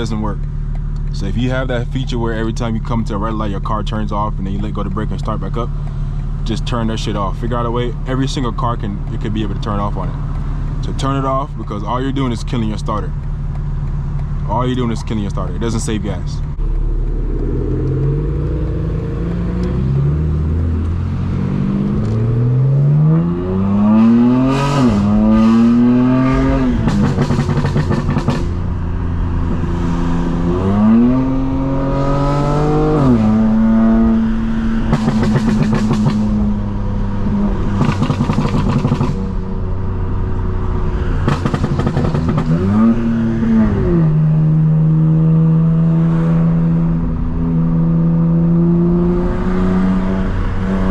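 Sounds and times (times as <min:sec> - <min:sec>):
car exhaust accelerating: 0:00.0 - 0:50.9.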